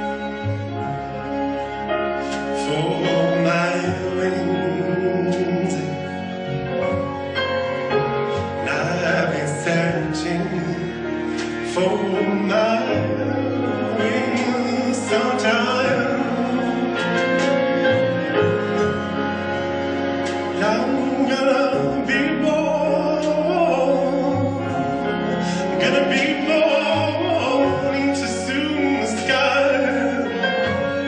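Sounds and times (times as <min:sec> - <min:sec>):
sustained instrumental chords: 0:00.0 - 0:31.0
person singing: 0:02.2 - 0:07.0, 0:08.2 - 0:19.1, 0:20.2 - 0:31.0.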